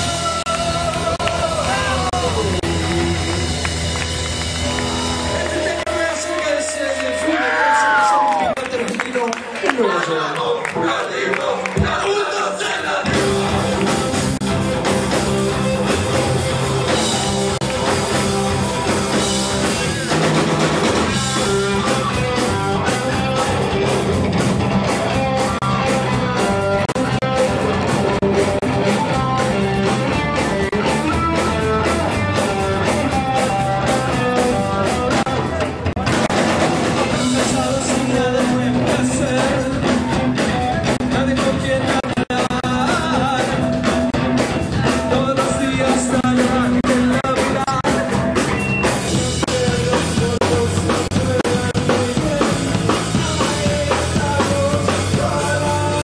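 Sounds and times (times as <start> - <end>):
person singing: 0.0 - 3.9, 4.8 - 8.6, 10.1 - 56.0
electric guitar: 0.0 - 8.6, 13.1 - 56.0
drums: 0.0 - 9.7, 10.7 - 56.0.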